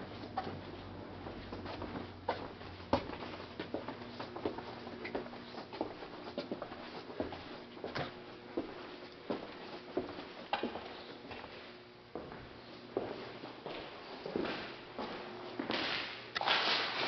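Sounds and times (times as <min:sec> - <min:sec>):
footsteps on hard floor: 0:00.0 - 0:15.9
faint steady hum: 0:00.0 - 0:17.0.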